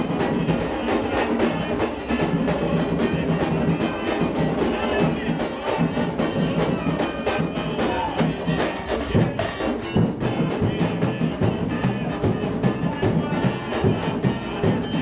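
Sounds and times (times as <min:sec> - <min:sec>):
deep bass drum beats: 0:00.0 - 0:15.0
samba drum section playing: 0:00.0 - 0:15.0.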